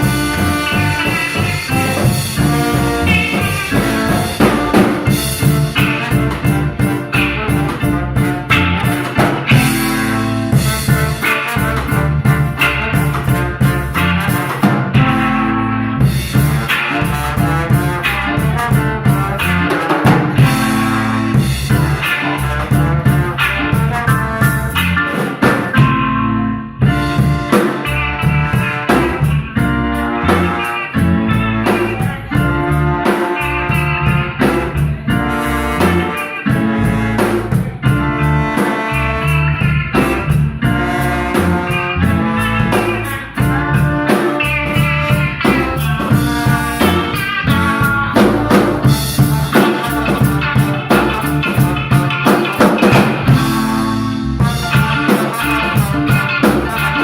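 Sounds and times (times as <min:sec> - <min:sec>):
drum kit beat: 0:00.0 - 0:57.0
melody and bass lines: 0:00.0 - 0:57.0.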